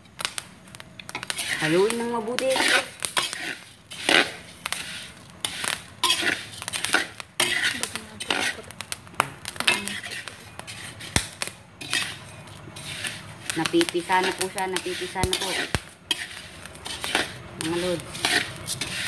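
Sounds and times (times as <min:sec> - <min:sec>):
rice grains rustling: 0:00.0 - 0:19.0
metal spatula scraping a wok: 0:01.1 - 0:08.8, 0:09.6 - 0:19.0.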